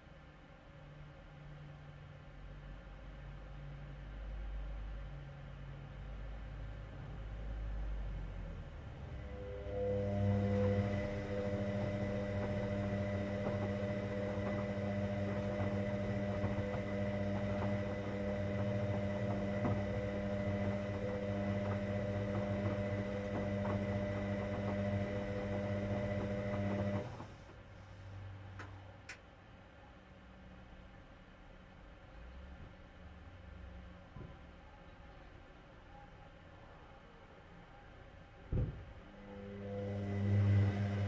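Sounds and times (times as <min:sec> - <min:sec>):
washing machine electrical hum: 0:00.0 - 0:31.4, 0:32.5 - 0:41.0.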